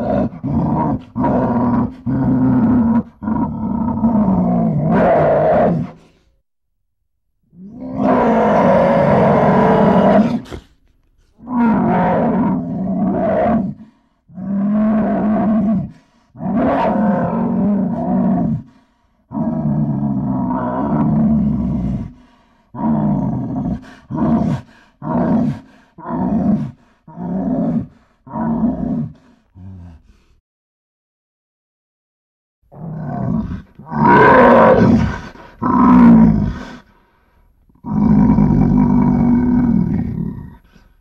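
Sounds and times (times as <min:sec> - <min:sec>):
lion roaring: 0:00.0 - 0:06.1, 0:07.6 - 0:29.3, 0:32.7 - 0:36.9, 0:37.7 - 0:41.0.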